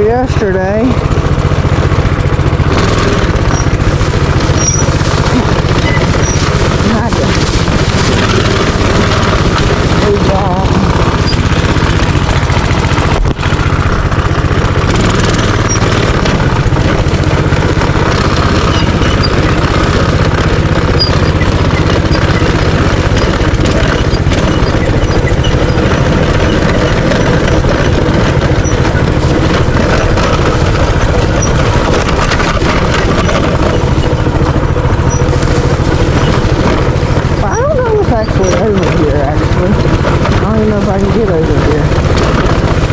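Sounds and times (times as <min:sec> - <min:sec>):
minibike engine running: 0:00.0 - 0:42.9.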